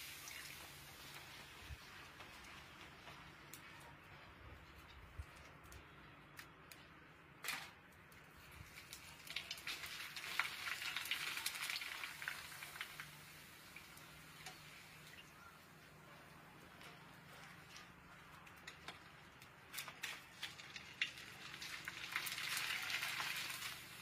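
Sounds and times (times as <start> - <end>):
frying sizzle and crackle: 0.0 - 6.8, 7.4 - 24.0.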